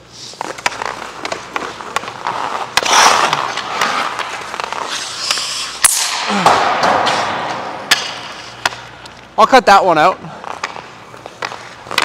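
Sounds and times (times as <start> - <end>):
skate blades scraping ice: 0.0 - 12.0
hockey stick clicking puck: 0.4 - 9.2, 10.5 - 12.0.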